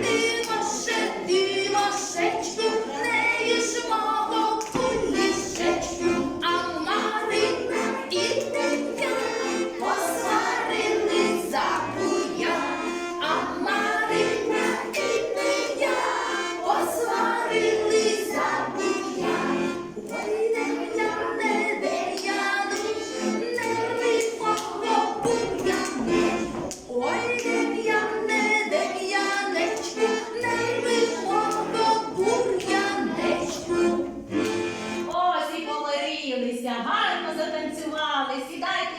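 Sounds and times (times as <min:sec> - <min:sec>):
group singing folk dance song: 0:00.0 - 0:35.3
steady rhythmic beat: 0:03.8 - 0:35.2.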